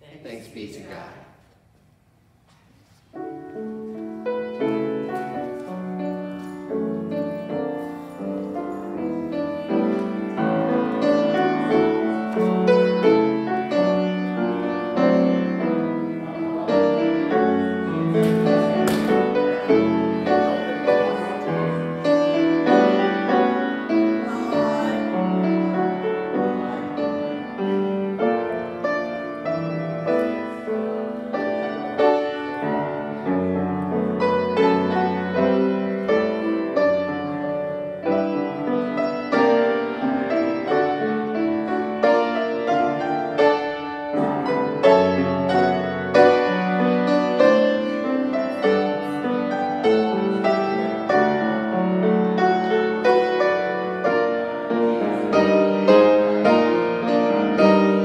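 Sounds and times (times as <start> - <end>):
classical piano music: 1.1 - 58.0.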